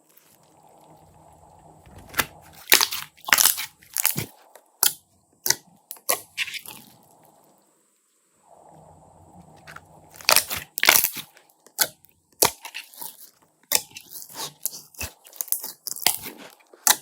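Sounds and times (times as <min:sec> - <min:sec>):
sharp crunching crackles: 0:00.0 - 0:07.5, 0:09.5 - 0:17.0.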